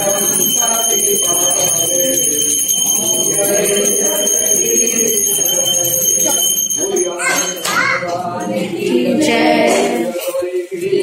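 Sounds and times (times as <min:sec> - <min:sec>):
hand bell ringing: 0:00.0 - 0:08.9
people singing: 0:00.0 - 0:11.0.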